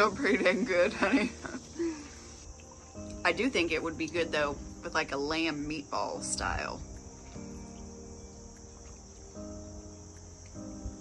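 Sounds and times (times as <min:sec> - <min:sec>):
insects droning: 0:00.0 - 0:11.0
soft background music chords: 0:00.0 - 0:11.0.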